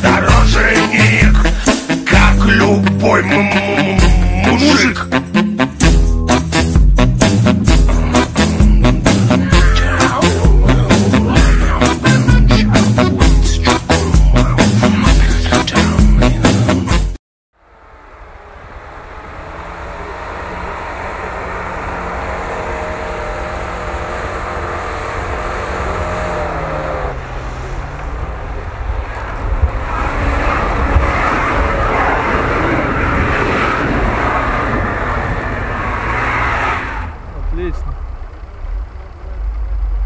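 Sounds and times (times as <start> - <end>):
rough engine working hard: 0.0 - 16.6, 17.6 - 40.0
off-road engine running under load: 0.0 - 17.0, 17.6 - 40.0.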